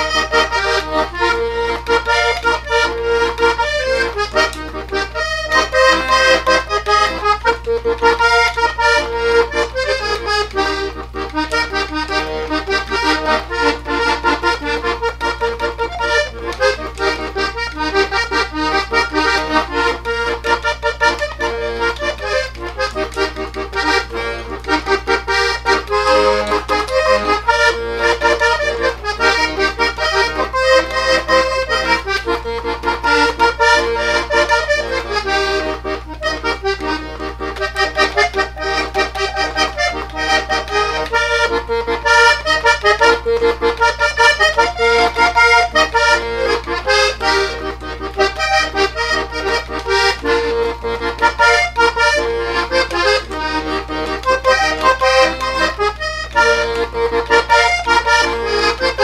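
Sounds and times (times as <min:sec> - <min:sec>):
button accordion melody: 0:00.0 - 0:59.0.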